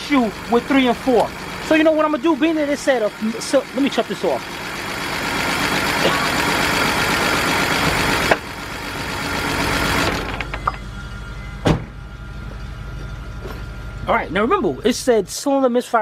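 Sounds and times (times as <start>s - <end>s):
engine running rough: 0.0s - 16.0s.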